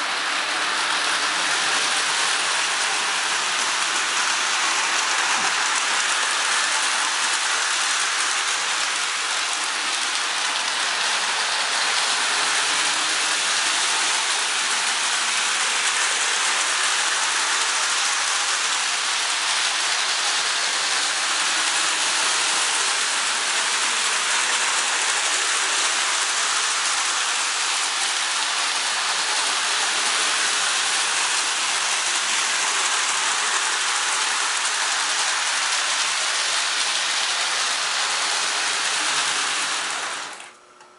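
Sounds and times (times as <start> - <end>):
toy train rattling on rails: 0.0 - 40.5.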